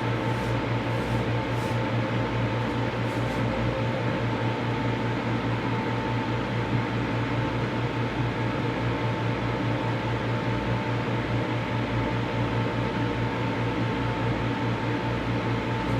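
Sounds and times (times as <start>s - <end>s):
fan noise: 0.0s - 15.9s
microwave oven hum: 0.0s - 15.9s.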